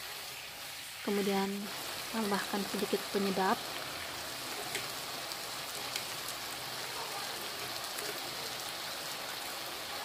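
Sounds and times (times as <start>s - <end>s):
squid sizzling in a wok: 0.0s - 10.0s.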